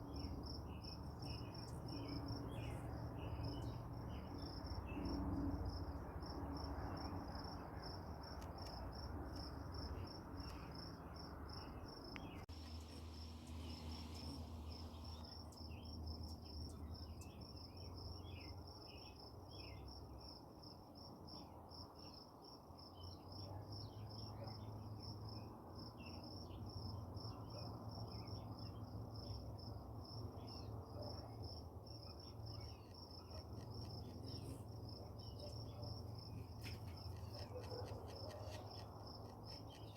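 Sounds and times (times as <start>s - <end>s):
crickets chirping: 0.0s - 23.1s, 23.7s - 39.9s.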